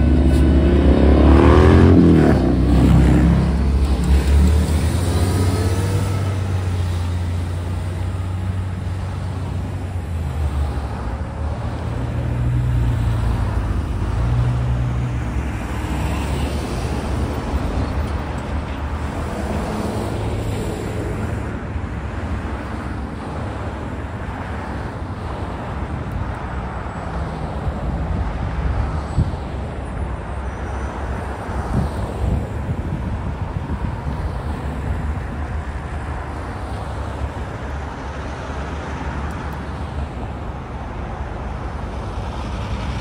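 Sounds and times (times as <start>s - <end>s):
highway traffic passing: 0.0s - 43.0s
truck engine drone: 0.0s - 43.0s.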